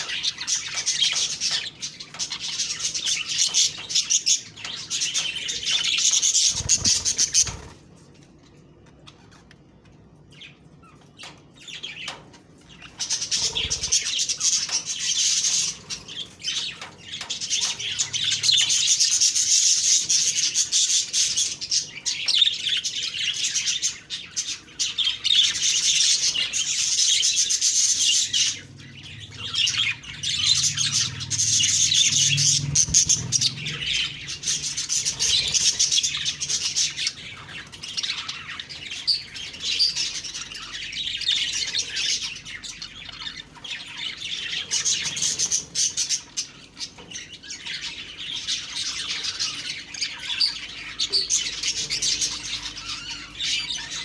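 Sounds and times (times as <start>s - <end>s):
budgerigars warbling and chattering: 0.0s - 54.0s.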